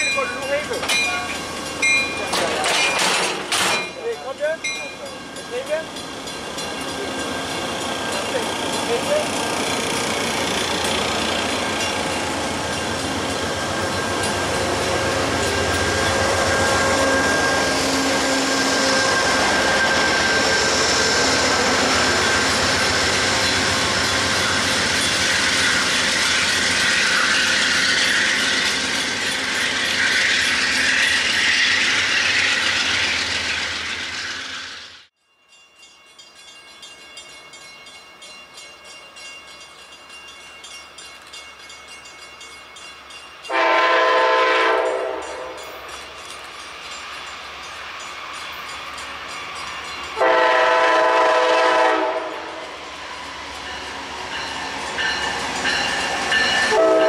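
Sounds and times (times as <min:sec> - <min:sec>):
train wheels rumbling on rails: 0:00.0 - 0:35.1, 0:35.8 - 0:57.0.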